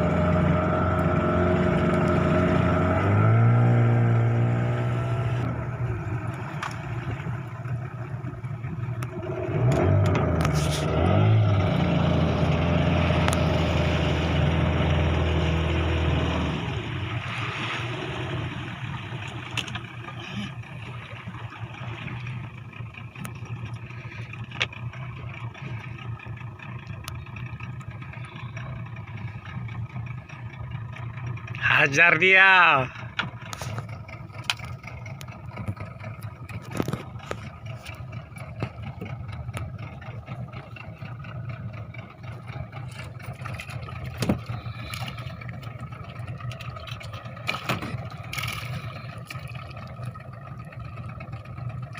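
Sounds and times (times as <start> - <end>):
boat motor running: 0.0 - 51.9.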